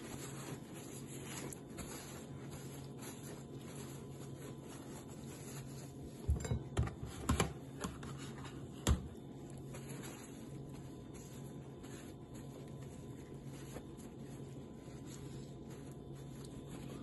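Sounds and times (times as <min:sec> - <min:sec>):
paper napkin scraping salt: 0:00.0 - 0:06.3, 0:07.6 - 0:17.0
low steady hum: 0:00.0 - 0:17.0.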